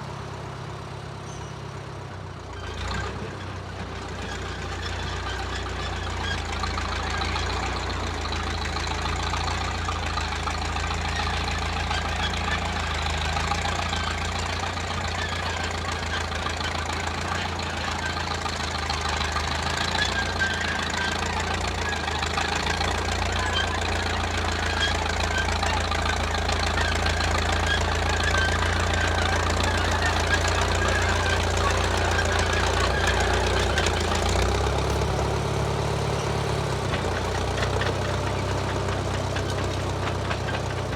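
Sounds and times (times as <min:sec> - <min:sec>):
bulldozer engine running: 0:00.0 - 0:40.9.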